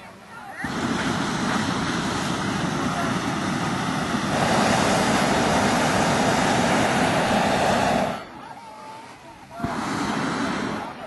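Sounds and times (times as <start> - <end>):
propane burner roaring: 0.6 - 8.6, 9.6 - 11.0.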